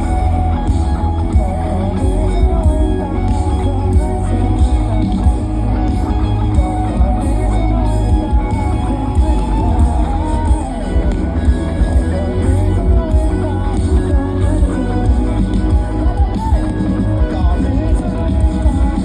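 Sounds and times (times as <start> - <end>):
live pop-rock band playing: 0.0 - 19.0.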